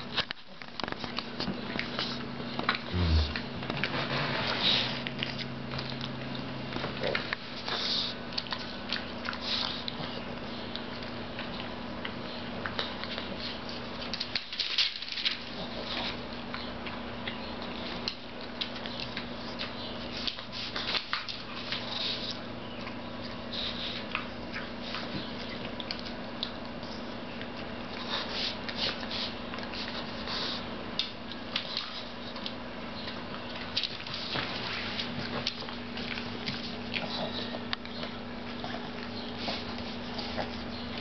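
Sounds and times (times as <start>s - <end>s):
dog chewing wet food: 0.0s - 41.0s.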